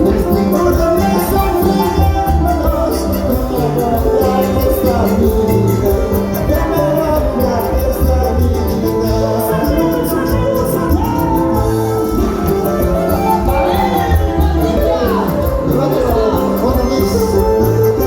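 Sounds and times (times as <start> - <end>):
latin music with percussion: 0.0 - 18.0
person singing: 0.0 - 18.0.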